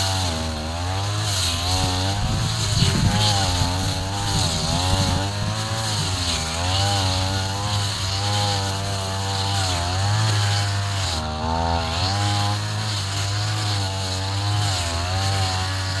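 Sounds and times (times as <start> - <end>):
brush cutter engine running: 0.0 - 16.0.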